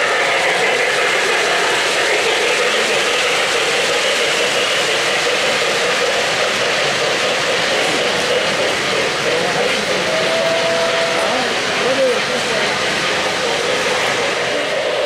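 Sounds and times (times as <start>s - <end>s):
model trains rolling on track: 0.0s - 15.0s.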